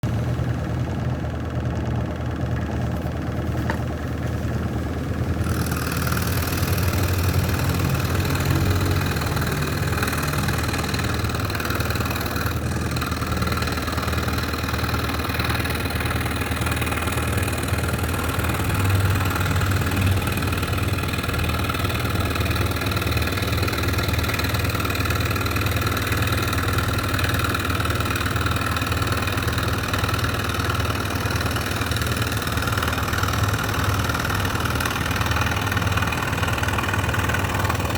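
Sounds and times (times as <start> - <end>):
scroll saw cutting wood: 5.2 - 37.9.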